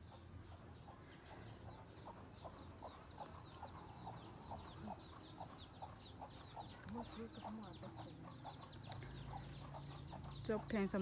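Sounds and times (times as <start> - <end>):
chickens clucking: 0.1 - 11.0.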